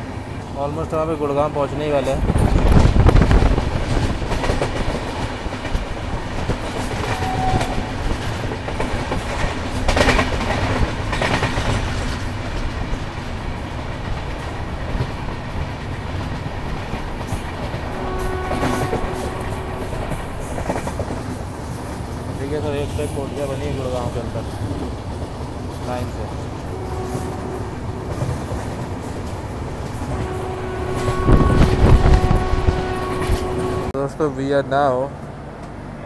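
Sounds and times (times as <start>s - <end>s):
train wheels rumbling on rails: 0.0s - 36.0s
wheels clicking over rail joints: 1.8s - 33.9s.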